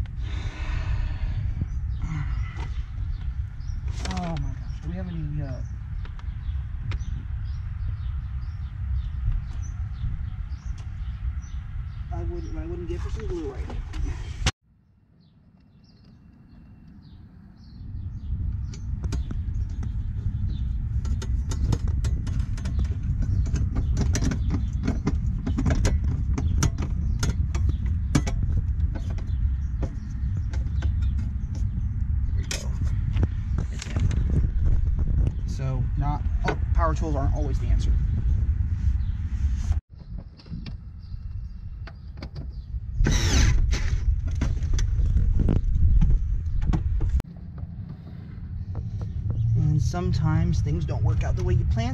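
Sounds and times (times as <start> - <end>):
steady low rumble: 0.0 - 14.6, 15.8 - 51.9.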